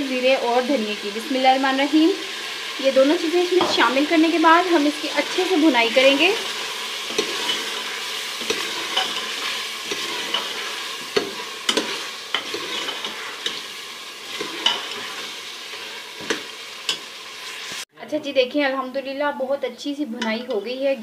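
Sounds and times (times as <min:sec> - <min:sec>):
meat sizzling in a pot: 0:00.0 - 0:17.9.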